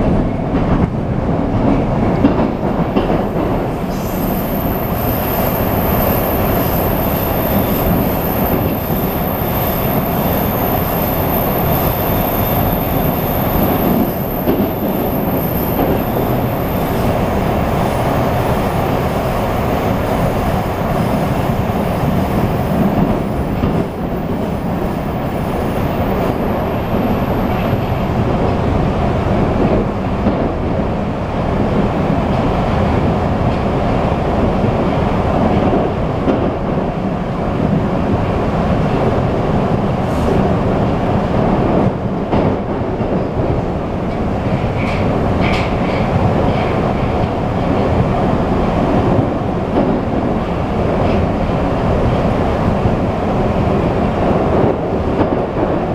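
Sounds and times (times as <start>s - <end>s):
metro train wheels rumbling: 0.0s - 55.9s.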